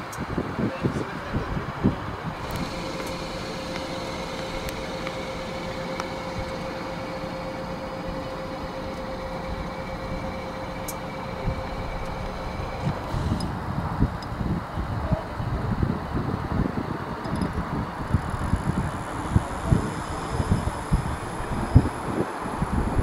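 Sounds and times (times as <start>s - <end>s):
mechanical hum with whine: 0.0s - 23.0s.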